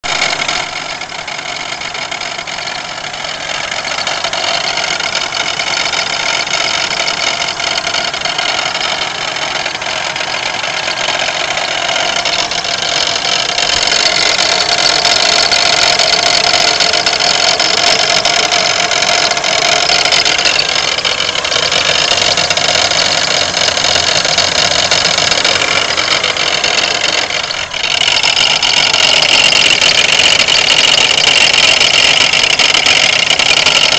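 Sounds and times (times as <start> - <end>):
car engine with grinding rattle: 0.0 - 33.9.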